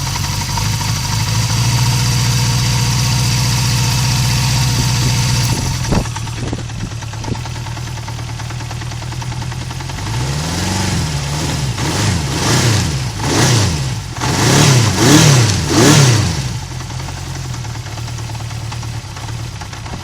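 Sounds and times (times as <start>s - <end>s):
motorcycle engine idling: 0.0s - 20.0s
motorcycle engine revving: 0.0s - 20.0s.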